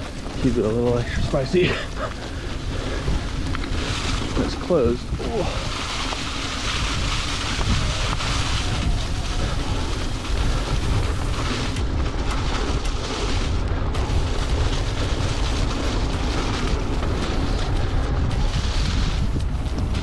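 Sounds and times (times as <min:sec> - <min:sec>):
bike tyres rolling on dirt trail: 0:00.0 - 0:20.0
wind buffeting microphone: 0:00.0 - 0:20.0.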